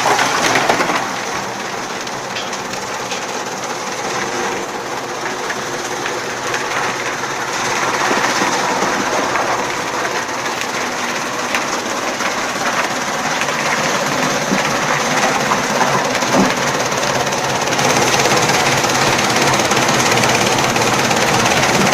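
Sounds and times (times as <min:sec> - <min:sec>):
chaff cutter running: 0:00.0 - 0:21.9.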